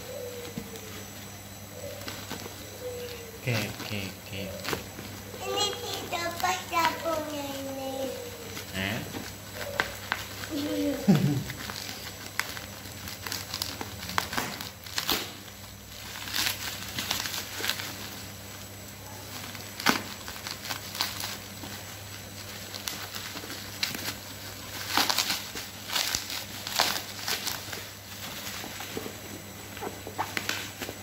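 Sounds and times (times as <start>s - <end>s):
bubble wrap crinkling: 0.3s - 31.0s.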